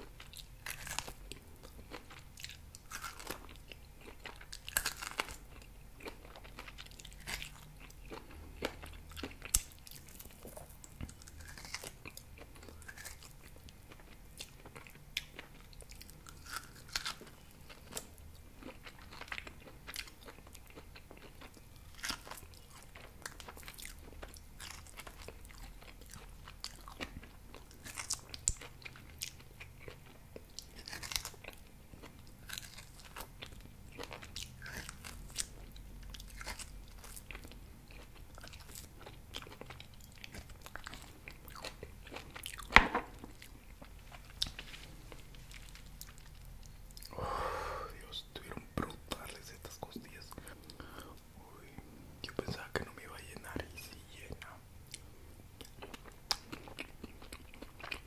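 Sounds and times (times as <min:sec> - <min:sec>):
chewing meat off the bone: 0:00.0 - 0:44.6, 0:52.3 - 0:58.0.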